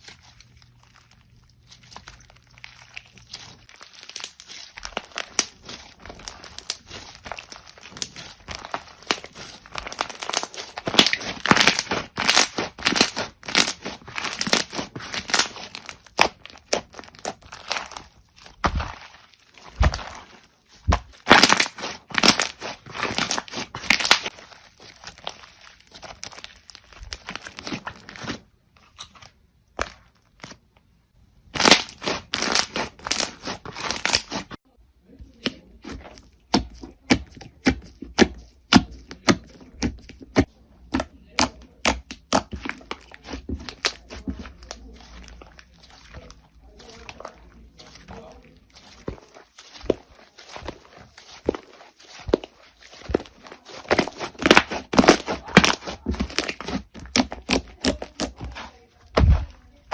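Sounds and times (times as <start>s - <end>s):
slime crackling and popping: 0.0s - 59.9s.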